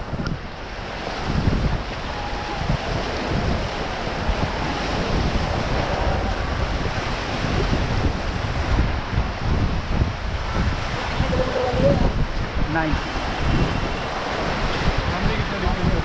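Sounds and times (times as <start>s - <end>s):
river rapid roaring: 0.0s - 16.0s
wind buffeting microphone: 0.0s - 16.0s.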